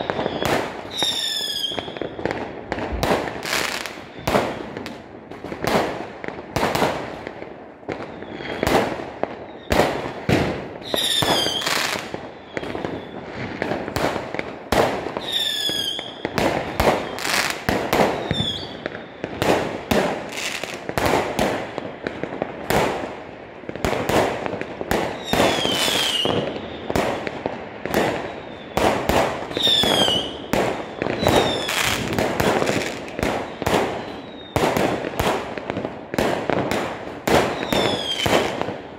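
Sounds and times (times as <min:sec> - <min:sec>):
fireworks banging: 0:00.0 - 0:38.9.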